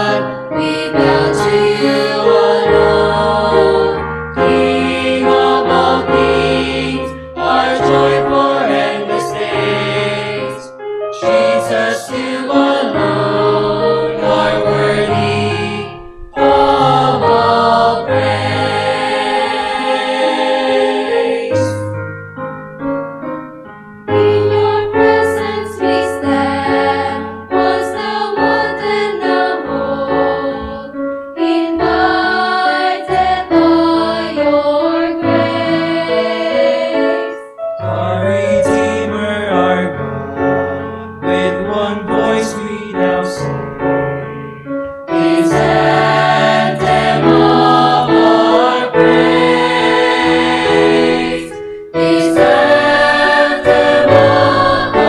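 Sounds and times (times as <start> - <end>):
mixed choir singing a hymn: 0.0 - 21.9, 24.1 - 55.0
piano accompaniment: 0.0 - 55.0.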